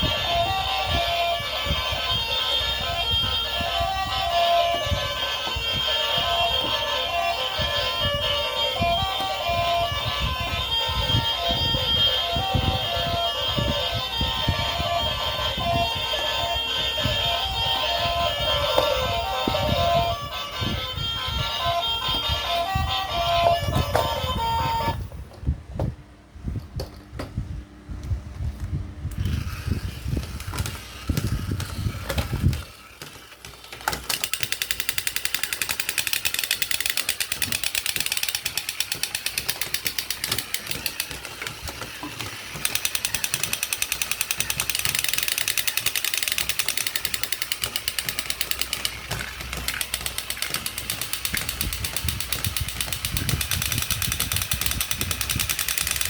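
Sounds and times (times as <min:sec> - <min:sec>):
toy vehicle rattling clicks: 0:00.0 - 0:25.0, 0:29.1 - 0:56.0.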